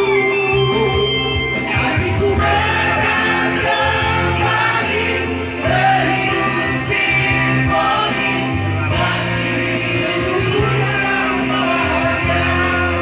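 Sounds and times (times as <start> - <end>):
band accompaniment: 0.0 - 13.0.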